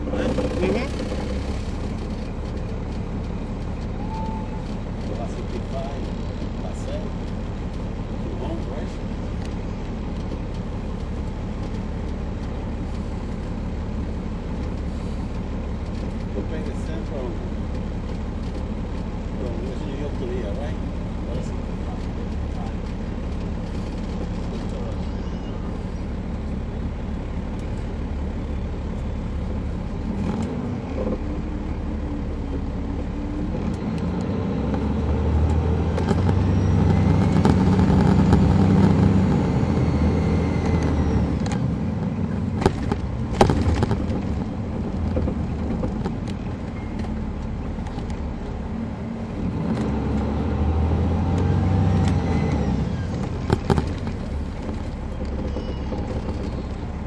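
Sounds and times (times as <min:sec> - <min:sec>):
bus diesel engine running: 0:00.0 - 0:57.0
high engine whine: 0:00.0 - 0:57.0.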